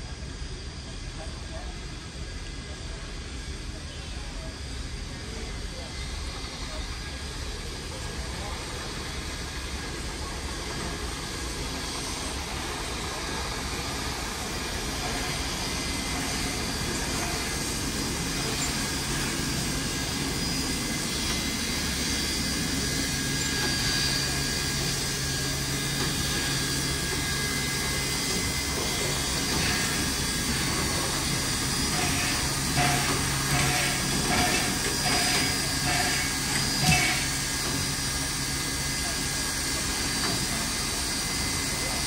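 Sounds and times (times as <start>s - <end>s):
steam locomotive hiss and rumble: 0.0s - 42.0s.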